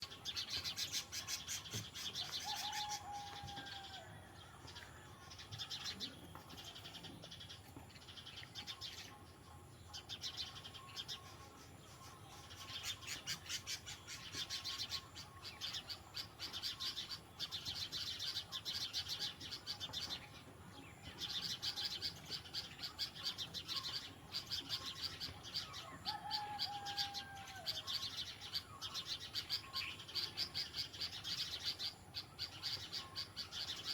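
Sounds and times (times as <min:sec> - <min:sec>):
birds scolding alarm chatter: 0:00.0 - 0:33.9.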